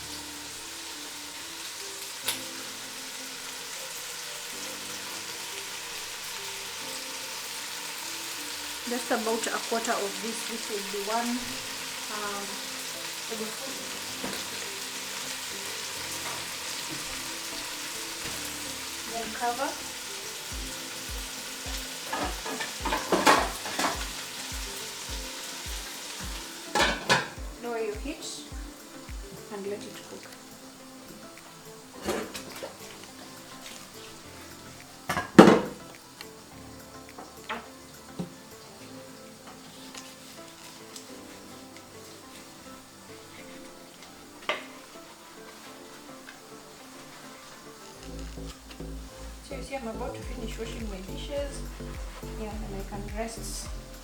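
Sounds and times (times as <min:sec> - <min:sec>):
soft background music: 0:00.0 - 0:54.0
stew sizzling in a pot: 0:00.0 - 0:54.0.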